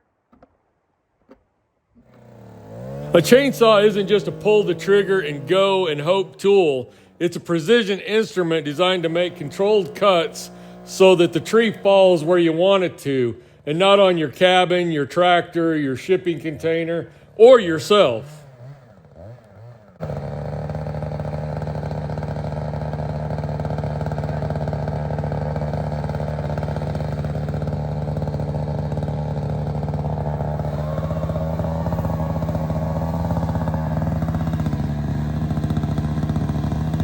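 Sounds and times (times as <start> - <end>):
chainsaw cutting a tree: 2.0 - 37.0.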